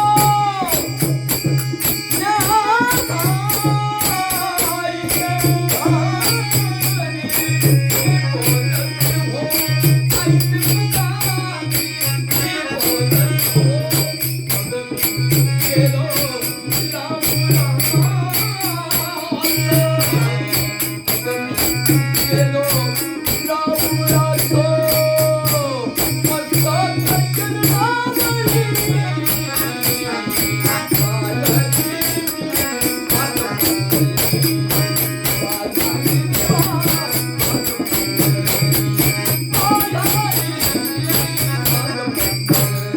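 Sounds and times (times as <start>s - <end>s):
fast jingling percussion: 0.0s - 42.9s.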